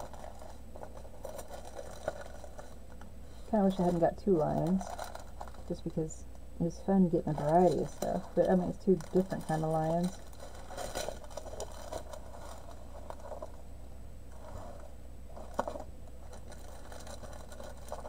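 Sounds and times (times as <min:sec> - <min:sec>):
plastic wrapping crinkling: 0:00.0 - 0:06.0, 0:07.2 - 0:13.6, 0:14.4 - 0:18.0.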